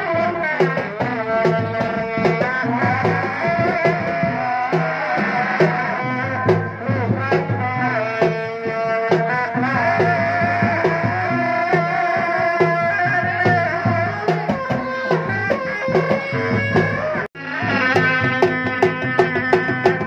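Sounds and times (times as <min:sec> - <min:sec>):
bending pitched melody: 0:00.0 - 0:20.0.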